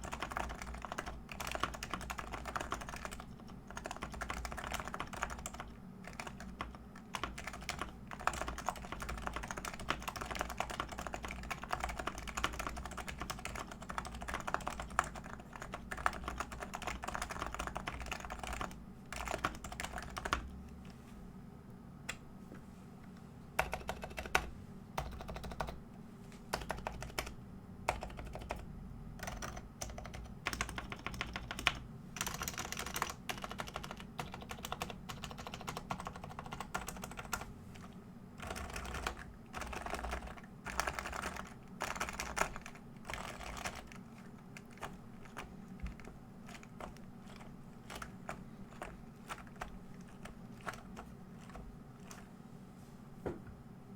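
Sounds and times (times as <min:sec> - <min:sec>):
keyboard typing: 0:00.0 - 0:20.5, 0:23.6 - 0:25.8, 0:26.5 - 0:52.3.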